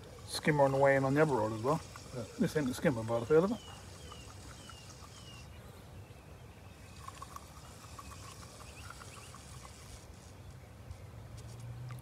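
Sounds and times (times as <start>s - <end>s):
small birds calling: 0.0s - 11.0s.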